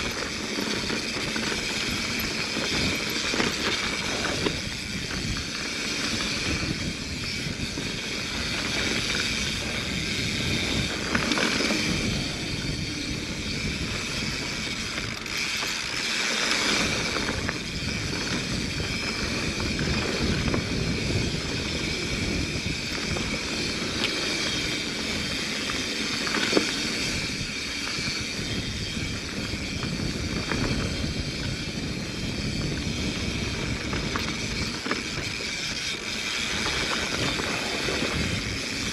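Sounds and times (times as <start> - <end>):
bike rattling and clicking: 0.0 - 38.9
wind rumbling on microphone: 0.0 - 38.9.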